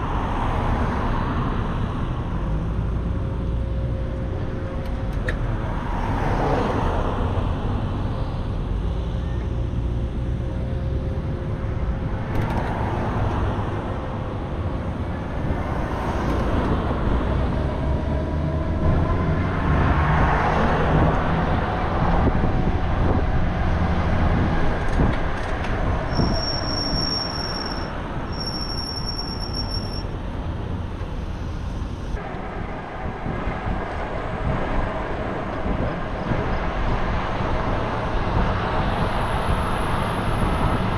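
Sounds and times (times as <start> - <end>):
road traffic: 0.0 - 40.9
wind rumble: 0.0 - 40.9.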